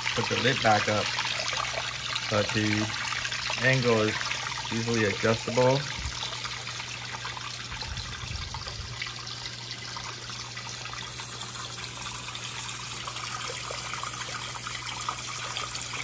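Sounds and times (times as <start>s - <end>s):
low steady hum: 0.0s - 16.0s
water splashing into aquarium: 0.0s - 16.0s.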